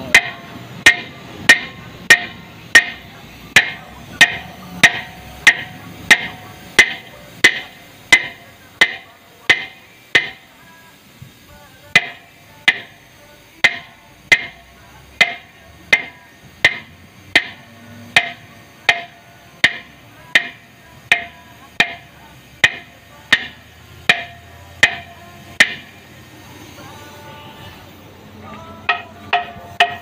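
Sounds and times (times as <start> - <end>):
sledgehammer striking steel drum: 0.0 - 10.5, 12.0 - 13.0, 13.6 - 14.6, 15.2 - 26.0, 28.9 - 30.0.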